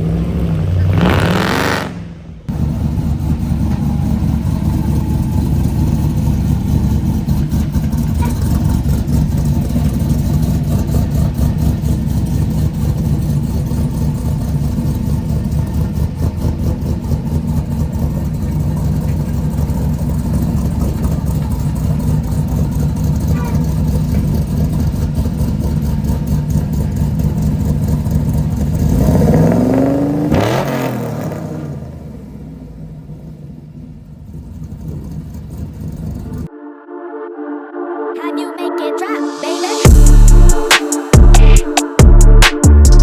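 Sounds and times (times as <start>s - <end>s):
car engine rumbling: 0.0s - 36.5s, 39.8s - 43.0s.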